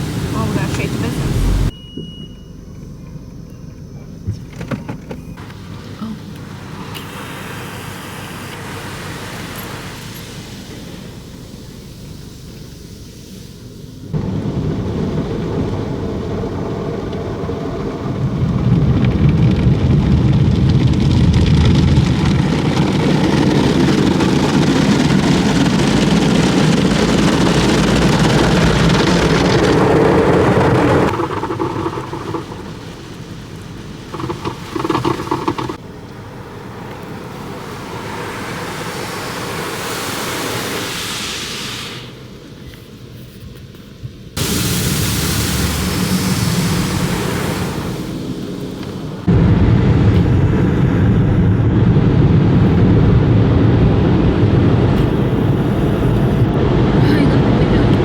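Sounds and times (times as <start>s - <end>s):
car wash water spraying on car: 0.0s - 1.8s, 5.4s - 58.0s.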